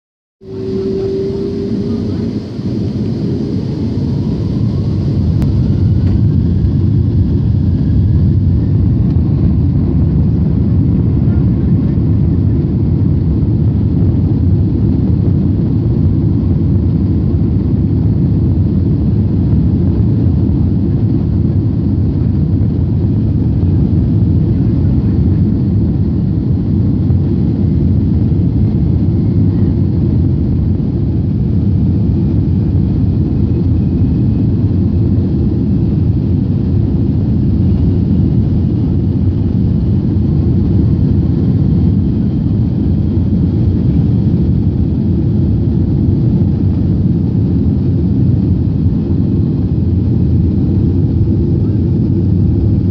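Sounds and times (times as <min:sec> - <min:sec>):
jet engines and wheels rumbling: 0:00.4 - 0:52.9.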